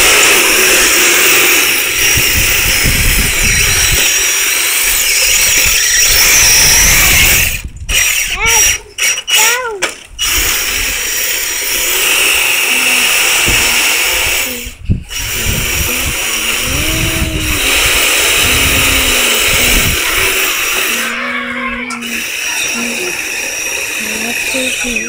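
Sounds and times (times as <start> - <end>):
toy car motor whirring: 0.0 - 25.0.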